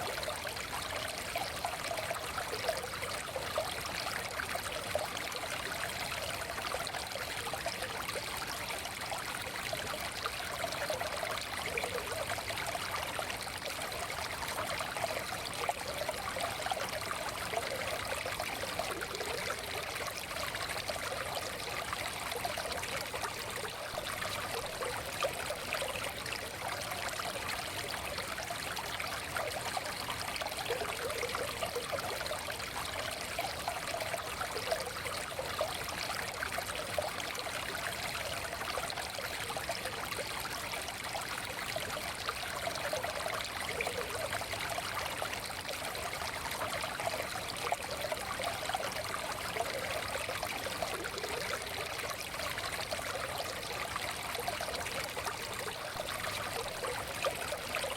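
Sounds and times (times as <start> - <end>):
stream running water: 0.0 - 57.9.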